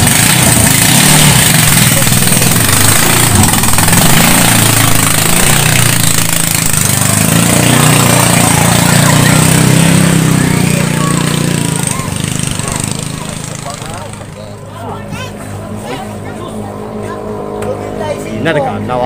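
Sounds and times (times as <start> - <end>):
boat engine running hard: 0.0 - 19.0.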